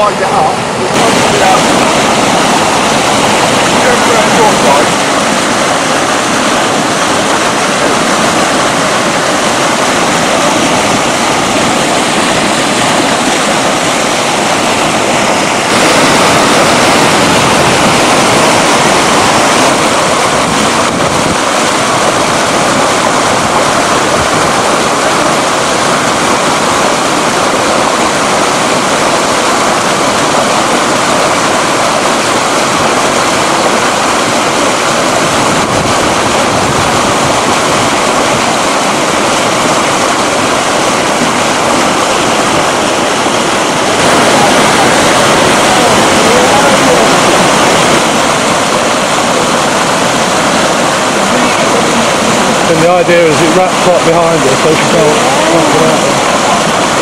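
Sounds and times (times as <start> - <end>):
whitewater rushing: 0.0 - 57.0.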